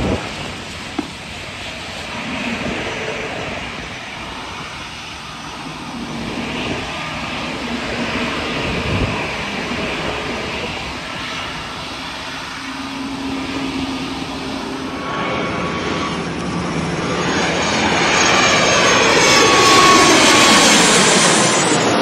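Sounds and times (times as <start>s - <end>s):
jet airliner passing: 0.0s - 22.0s.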